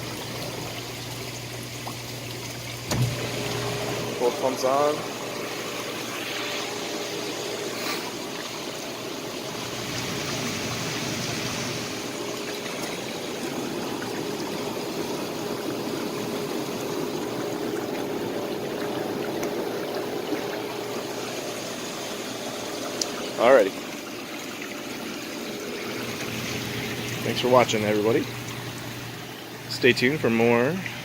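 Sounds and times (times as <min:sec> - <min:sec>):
pump motor hum: 0:00.0 - 0:31.0
water churning and splashing: 0:00.0 - 0:31.0.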